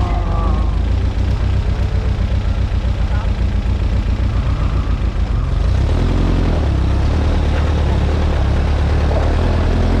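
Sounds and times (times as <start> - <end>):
dune buggy engine driving: 0.0 - 10.0.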